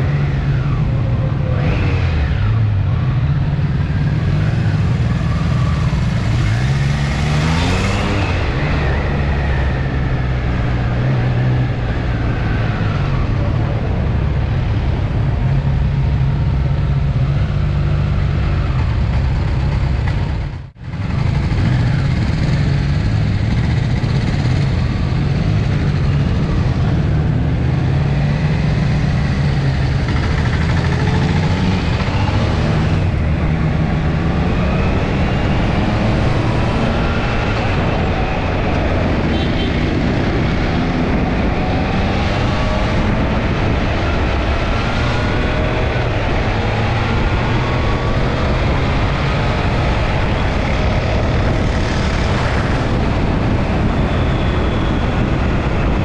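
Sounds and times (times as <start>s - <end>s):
motorcycle engine drone: 0.0s - 56.0s
wind noise: 0.0s - 56.0s.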